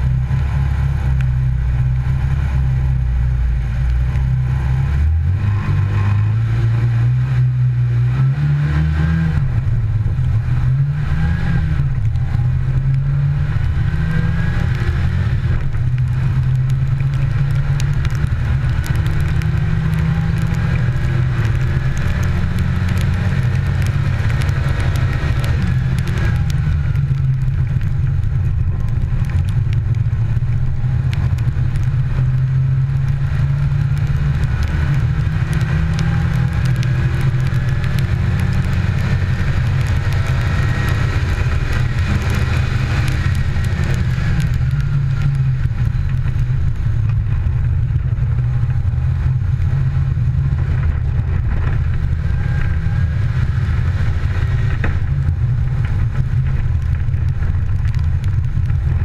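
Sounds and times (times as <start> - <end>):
rally car engine running hard: 0.0 - 59.0
wind and road noise: 0.0 - 59.0
spray and grit ticking: 11.6 - 59.0.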